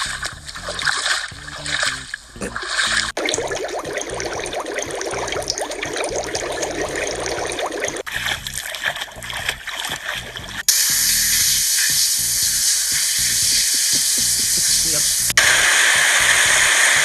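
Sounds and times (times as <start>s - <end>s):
water bubbling trickle: 0.0s - 15.0s
water spray hissing: 0.0s - 17.0s.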